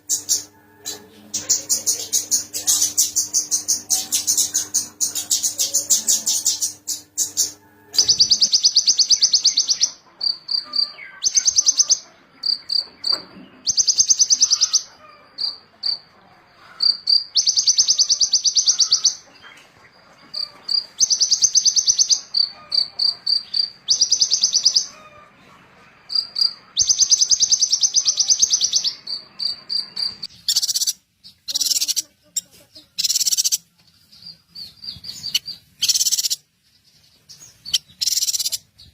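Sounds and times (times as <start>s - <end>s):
songbird singing buzzy trills: 0.0s - 38.9s.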